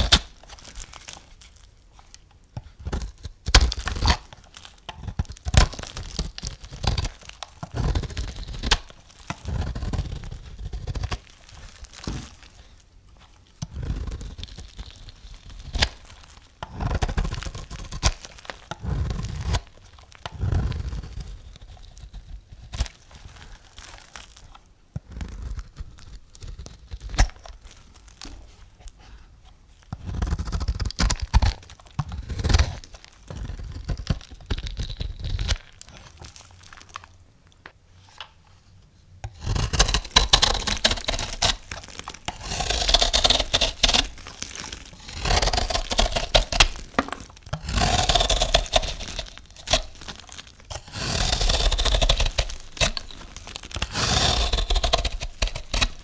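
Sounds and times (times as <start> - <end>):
knife cutting through soap: 2.6 - 12.7, 13.6 - 27.6, 29.9 - 37.1, 39.2 - 56.0.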